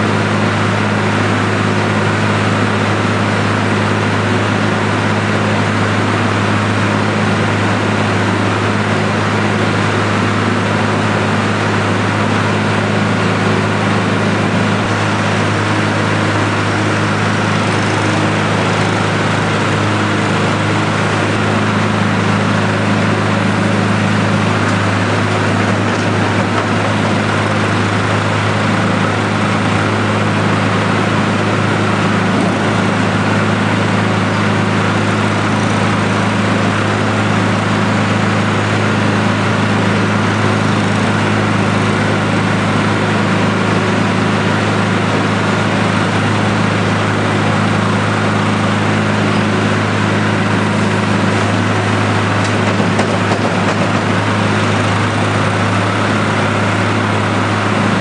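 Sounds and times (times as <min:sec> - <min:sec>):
feed mixer droning: 0:00.0 - 0:58.0.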